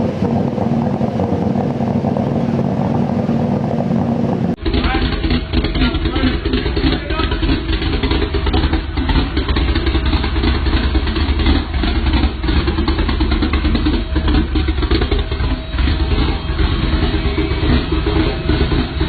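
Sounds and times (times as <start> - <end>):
vehicle exhaust rumbling: 0.0 - 19.0.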